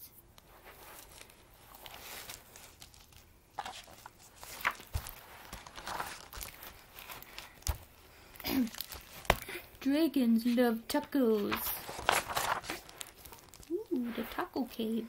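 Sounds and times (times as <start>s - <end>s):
paper pages rustling: 0.4s - 9.8s, 10.4s - 15.0s.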